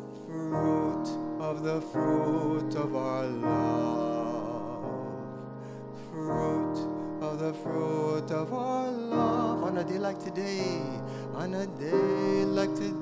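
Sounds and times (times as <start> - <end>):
grand piano chords: 0.0 - 13.0
man singing a ballad: 0.0 - 13.0.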